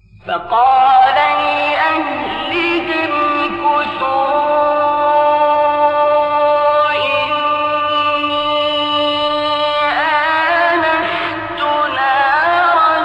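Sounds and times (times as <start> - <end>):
man reciting melodically: 0.2 - 13.0.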